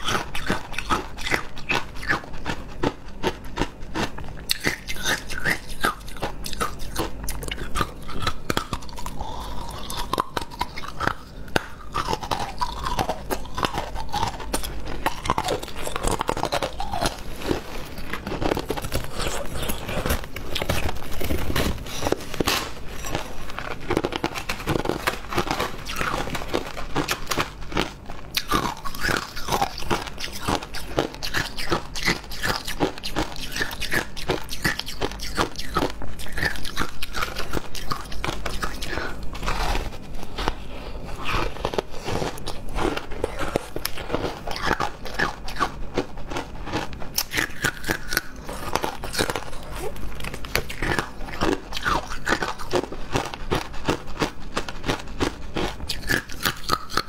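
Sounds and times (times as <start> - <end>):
chewing crunchy ice: 0.0 - 57.0.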